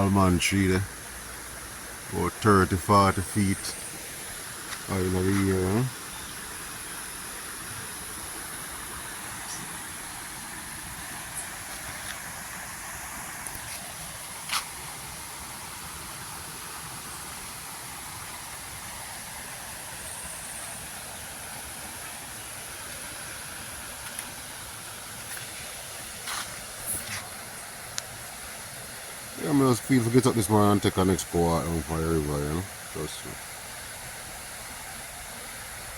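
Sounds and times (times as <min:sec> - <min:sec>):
river water rushing: 0:00.0 - 0:35.9.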